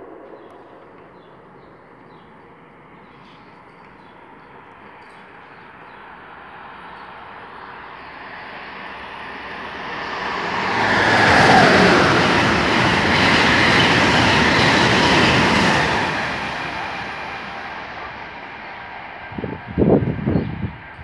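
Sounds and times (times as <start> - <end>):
train cars rushing past: 0.0 - 21.0.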